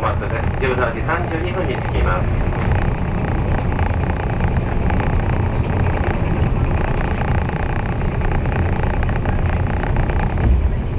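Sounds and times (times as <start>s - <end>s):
faint steady hum: 0.0s - 10.9s
train wheels rumbling on rails: 0.0s - 10.9s.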